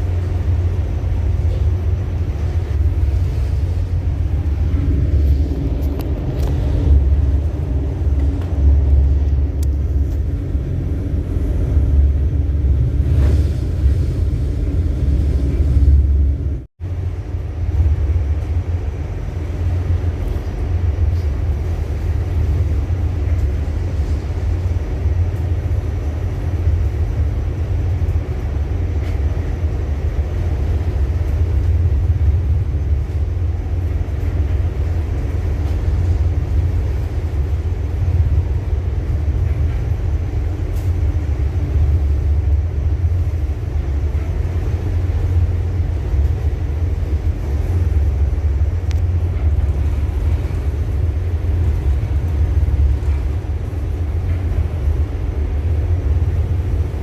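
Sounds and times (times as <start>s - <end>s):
ship engine rumbling: 0.0s - 57.0s.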